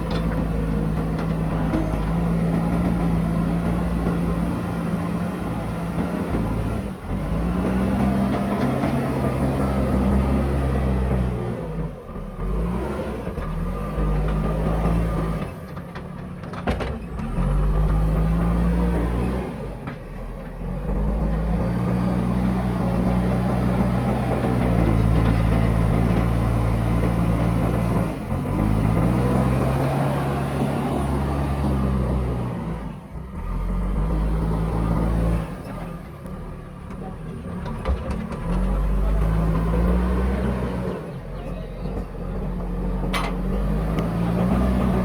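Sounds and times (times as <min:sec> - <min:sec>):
diesel engine revving: 0:00.0 - 0:45.0.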